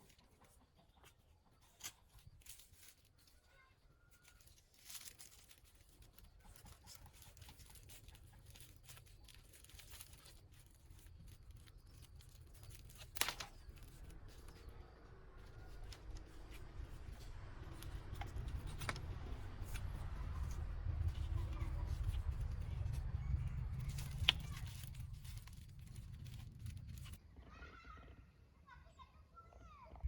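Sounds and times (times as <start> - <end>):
faint rustling: 0.0 - 27.2.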